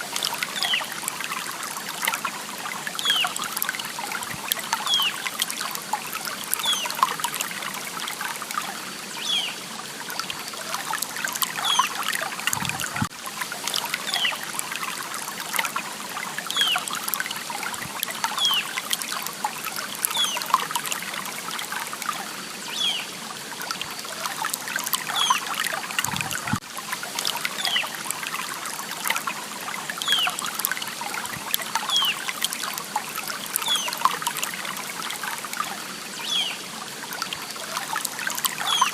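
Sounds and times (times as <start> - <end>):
water babbling over stones: 0.0 - 38.9.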